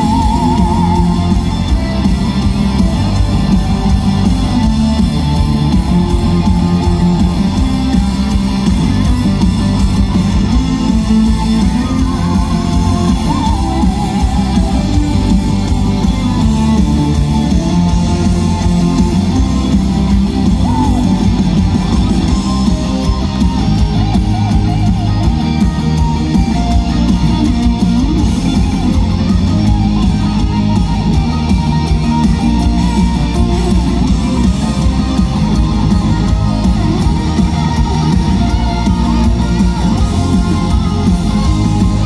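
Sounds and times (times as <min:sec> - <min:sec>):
heavy metal band playing live: 0:00.0 - 0:42.0.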